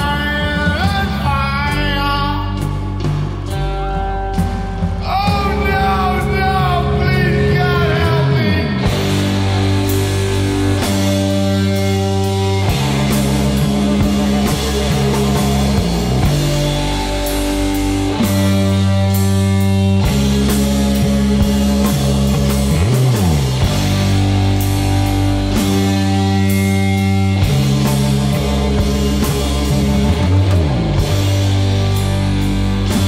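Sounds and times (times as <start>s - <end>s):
rock music with guitar and drums: 0.0s - 33.0s.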